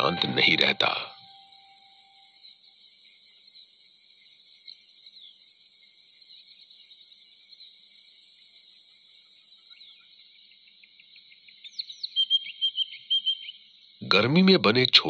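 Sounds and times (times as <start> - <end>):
insect chirps: 0.8 - 14.0.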